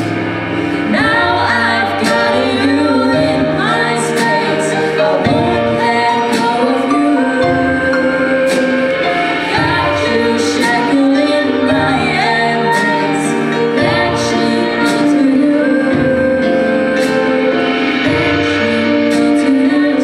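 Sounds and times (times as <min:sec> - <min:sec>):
keyboard piano chords: 0:00.0 - 0:20.0
woman singing: 0:00.8 - 0:20.0.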